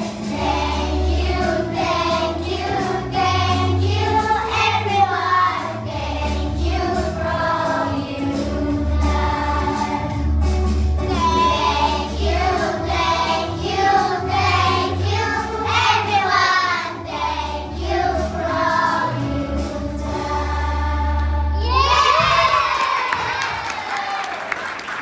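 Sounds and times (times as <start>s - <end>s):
backing music track: 0.0s - 21.9s
children singing together: 0.0s - 22.1s.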